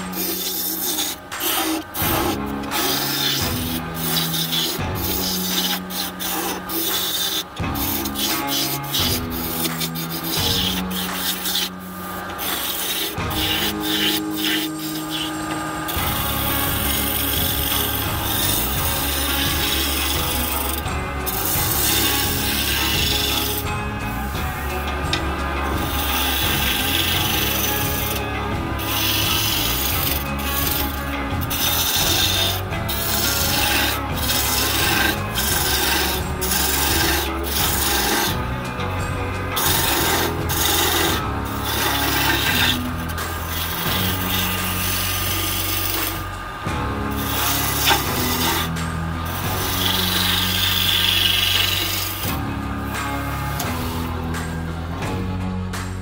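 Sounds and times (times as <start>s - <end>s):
gouge scraping wood: 0.0s - 54.9s
wood lathe spinning: 0.0s - 56.0s.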